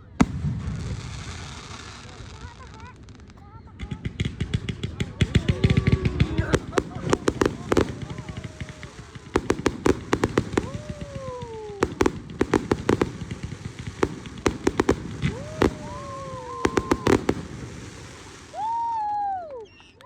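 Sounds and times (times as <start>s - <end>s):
fireworks cracking and banging: 0.0s - 19.9s.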